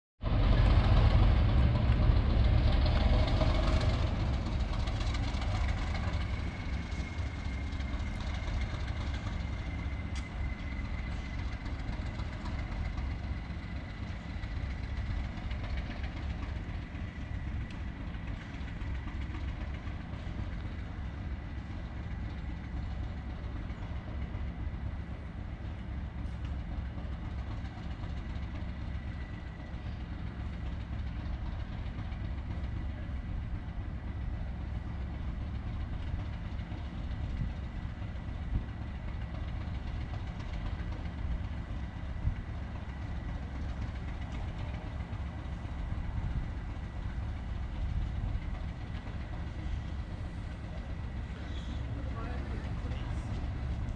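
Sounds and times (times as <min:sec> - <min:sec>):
diesel locomotive engine idling: 0:00.2 - 0:53.9.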